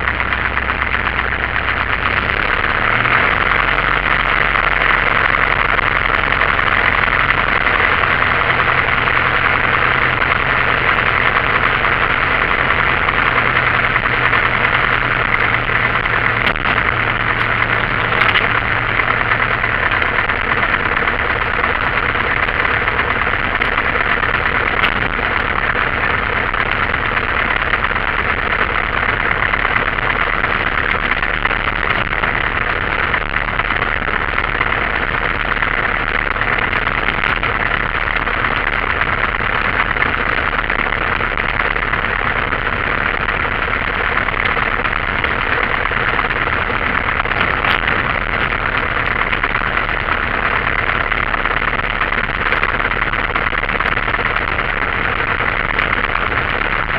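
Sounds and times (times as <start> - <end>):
light aircraft engine idling: 0.0 - 51.4.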